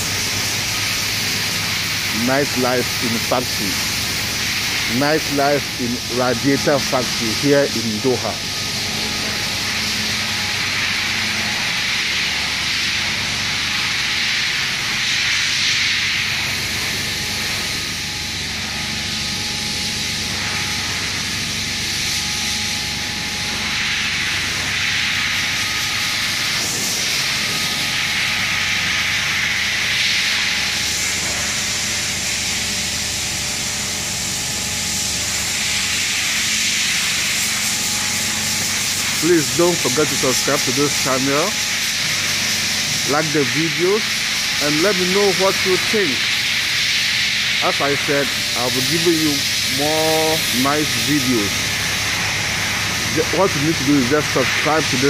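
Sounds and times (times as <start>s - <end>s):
faint machine hum: 0.0s - 55.0s
steady hiss: 0.0s - 55.0s.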